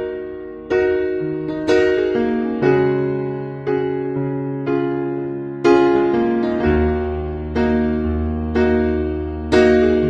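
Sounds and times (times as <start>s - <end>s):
electric piano chords: 0.0s - 10.0s.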